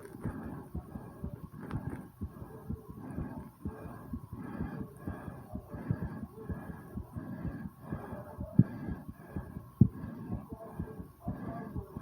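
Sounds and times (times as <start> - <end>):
fast heartbeat thumps: 0.0 - 12.0
heavy breathing: 0.0 - 12.0.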